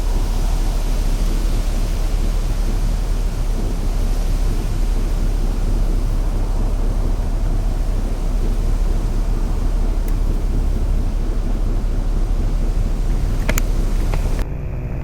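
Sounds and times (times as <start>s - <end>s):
aircraft engines rumbling: 0.0s - 15.0s
wind buffeting microphone: 0.0s - 15.0s.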